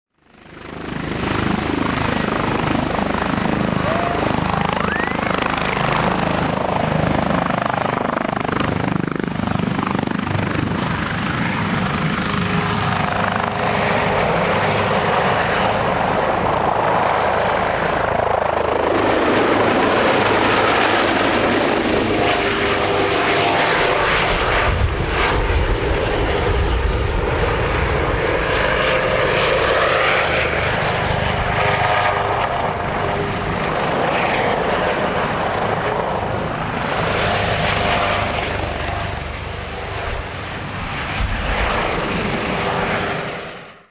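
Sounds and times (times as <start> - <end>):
helicopter engine whine: 0.2 - 43.9.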